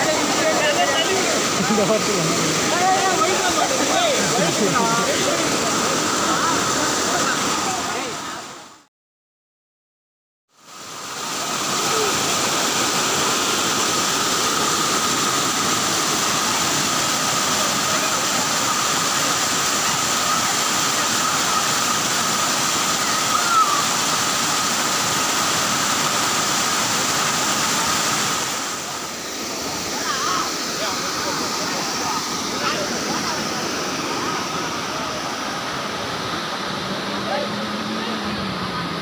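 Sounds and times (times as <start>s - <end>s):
waterfall rushing: 0.0s - 8.9s, 10.6s - 39.0s.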